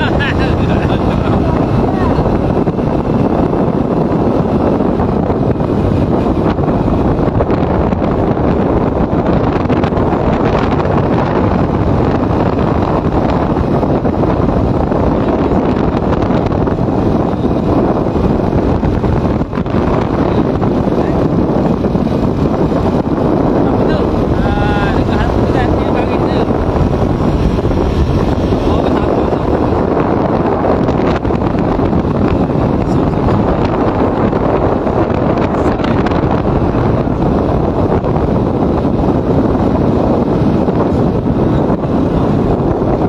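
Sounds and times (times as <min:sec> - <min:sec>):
motorcycle engine: 0:00.0 - 0:43.0
wind buffeting microphone: 0:00.0 - 0:43.0.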